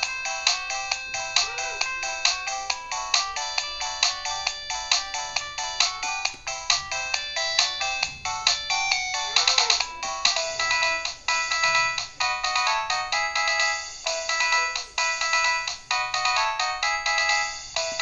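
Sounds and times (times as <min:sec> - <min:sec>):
polyphonic phone ringtone melody: 0:00.0 - 0:18.0.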